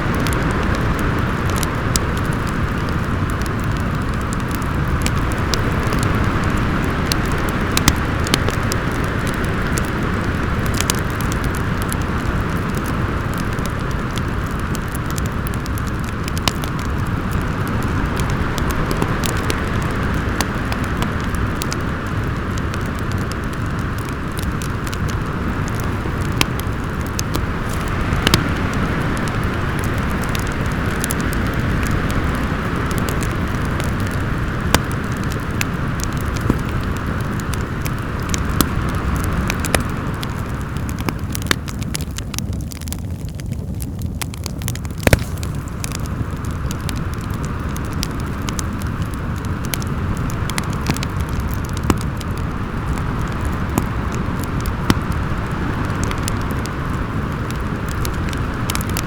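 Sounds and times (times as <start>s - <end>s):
storm wind howling: 0.0s - 59.0s
wood fire crackling and popping: 0.0s - 59.0s.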